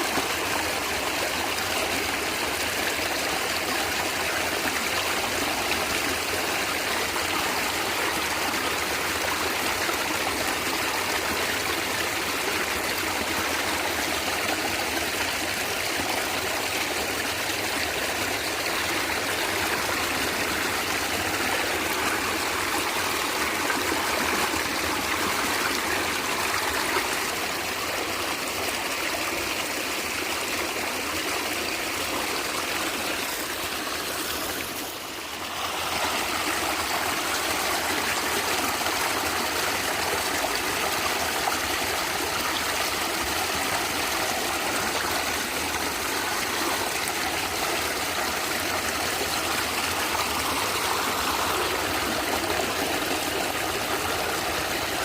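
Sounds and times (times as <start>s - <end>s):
stream gurgling: 0.0s - 55.0s.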